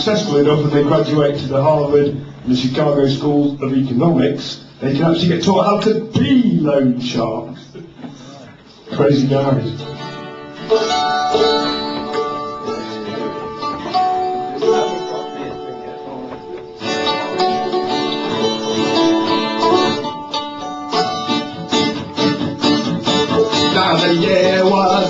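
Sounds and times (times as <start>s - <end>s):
folk-punk band playing acoustic: 0.0s - 6.6s, 7.7s - 25.0s.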